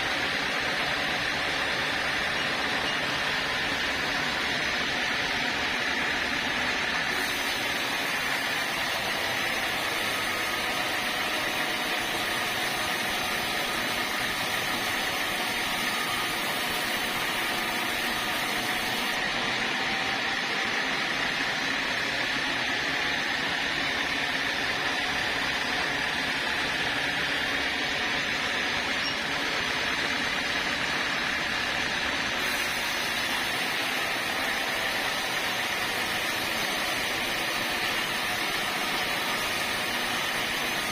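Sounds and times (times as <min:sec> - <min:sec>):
sawmill saw running: 0:00.0 - 0:40.9.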